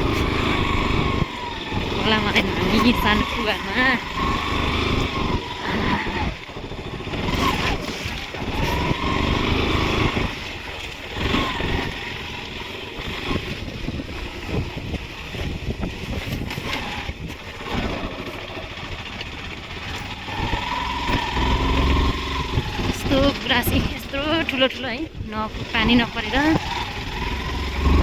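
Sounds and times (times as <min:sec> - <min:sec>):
motorcycle engine revving: 0:00.0 - 0:28.0
wind buffeting microphone: 0:00.0 - 0:28.0.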